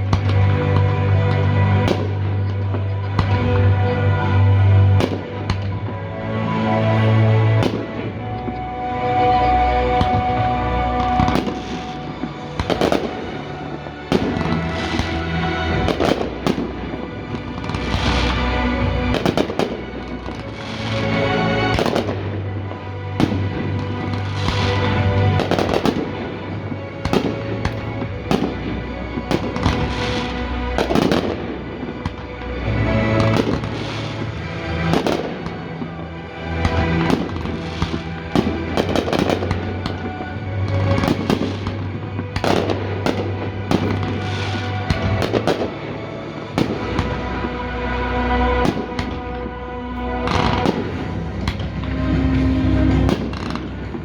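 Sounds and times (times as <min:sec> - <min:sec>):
fireworks bangs: 0:00.0 - 0:03.7, 0:04.9 - 0:05.9, 0:07.6 - 0:08.1, 0:09.9 - 0:36.0, 0:36.6 - 0:47.6, 0:48.5 - 0:49.4, 0:50.1 - 0:54.0
music playing: 0:00.0 - 0:54.0.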